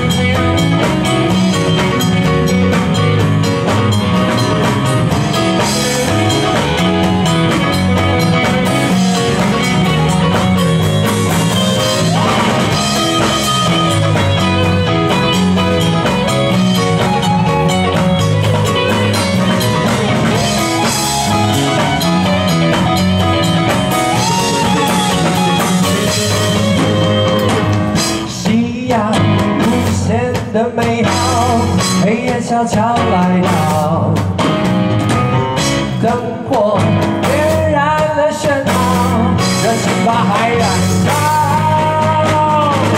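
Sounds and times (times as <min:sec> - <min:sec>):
drum kit: 0:00.0 - 0:42.9
electric bass: 0:00.0 - 0:42.9
electric guitar: 0:00.0 - 0:42.9
keyboard: 0:00.0 - 0:42.9.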